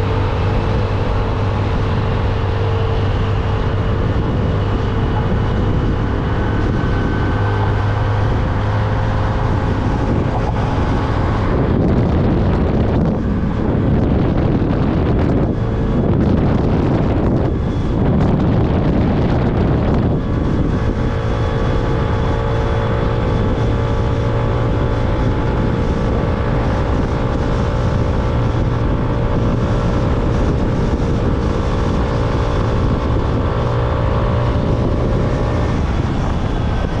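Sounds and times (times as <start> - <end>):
motorcycle engine cruising: 0.0 - 37.0
wind rumble on microphone: 0.0 - 37.0.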